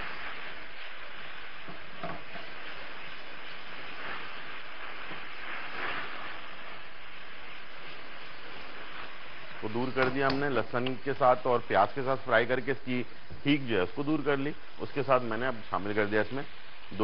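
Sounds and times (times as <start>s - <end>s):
food sizzling in a pan: 0.0s - 17.0s
stirring in a pan: 0.0s - 17.0s.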